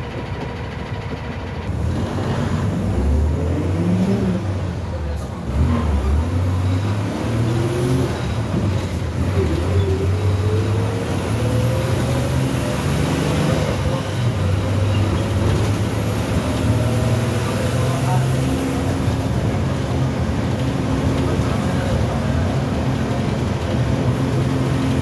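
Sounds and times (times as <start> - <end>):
bus engine running under load: 0.0 - 25.0.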